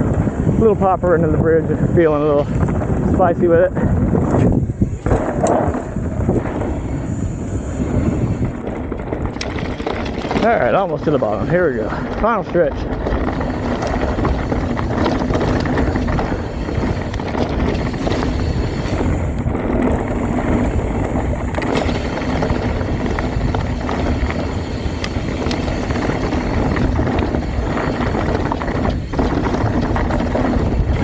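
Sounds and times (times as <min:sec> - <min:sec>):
bike clicks and rattles: 0:00.0 - 0:31.0
wind and tyre noise: 0:00.0 - 0:31.0.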